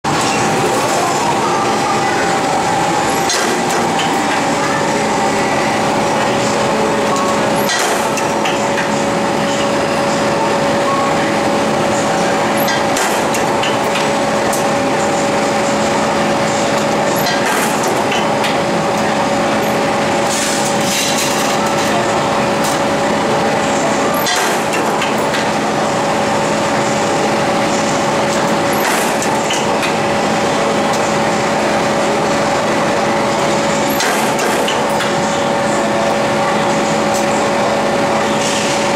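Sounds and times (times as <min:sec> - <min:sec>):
punch press humming: 0:00.0 - 0:38.9.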